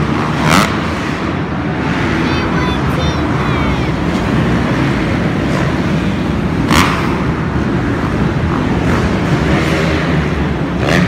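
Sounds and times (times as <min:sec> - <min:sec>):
dirt bike engines rumbling: 0:00.0 - 0:11.0.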